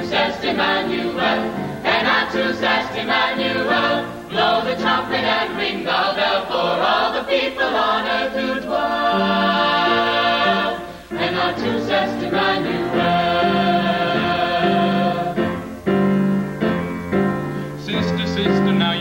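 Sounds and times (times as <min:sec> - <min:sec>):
mixed choir singing pop: 0:00.0 - 0:16.1.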